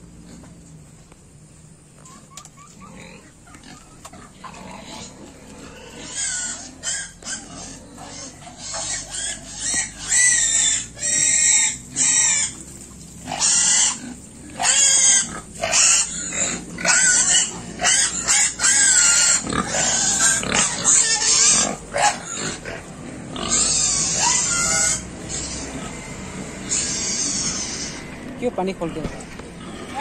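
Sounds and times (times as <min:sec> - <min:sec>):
piglets squealing: 0:02.0 - 0:30.0.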